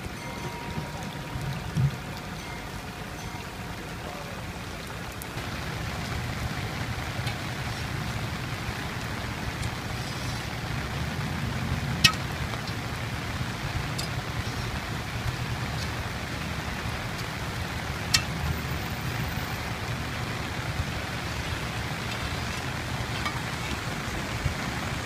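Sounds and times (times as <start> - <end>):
heavy rain: 0.0 - 25.0
running floodwater: 0.0 - 25.0.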